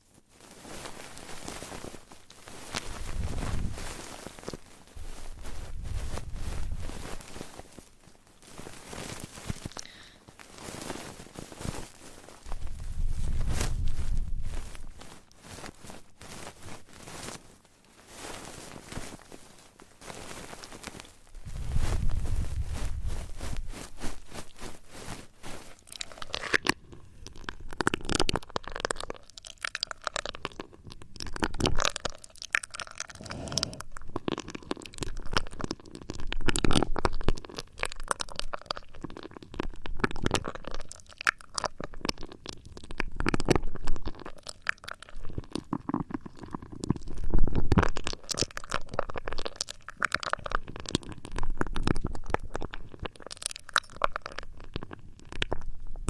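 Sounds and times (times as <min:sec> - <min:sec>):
rustling and crinkling on microphone: 0:00.0 - 0:56.0.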